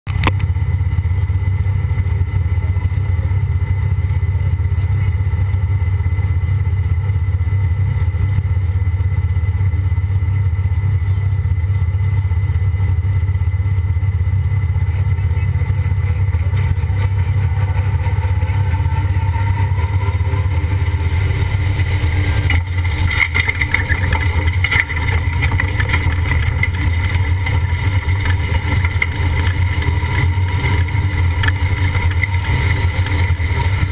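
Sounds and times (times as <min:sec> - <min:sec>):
tractor engine running under load: 0:00.1 - 0:33.9.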